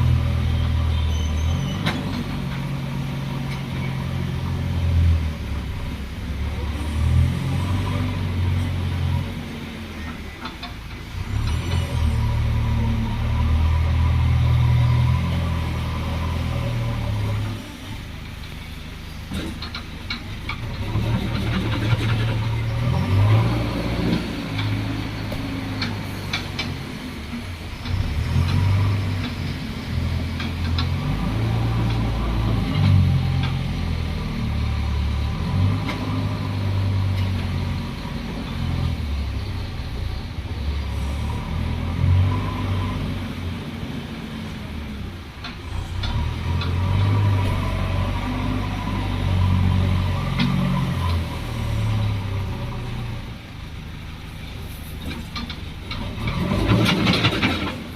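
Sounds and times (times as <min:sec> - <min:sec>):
heavy diesel engine under load: 0:00.0 - 0:57.9.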